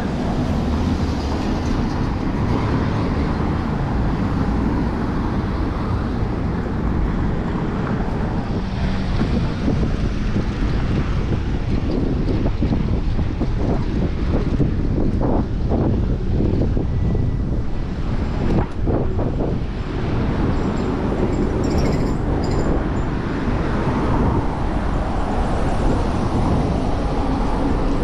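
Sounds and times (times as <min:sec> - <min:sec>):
low rumble of vehicles: 0:00.0 - 0:28.0
wind rushing over microphone: 0:00.0 - 0:28.0.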